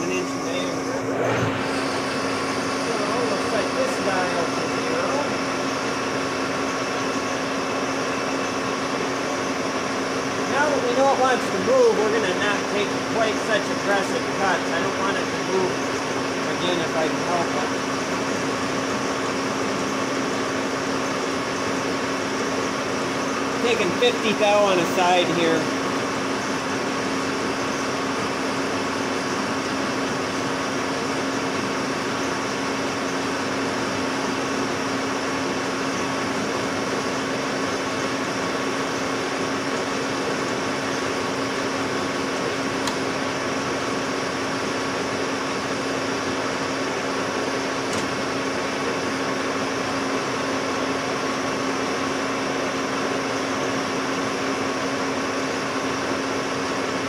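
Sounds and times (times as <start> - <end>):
metal lathe cutting: 0.0 - 57.0.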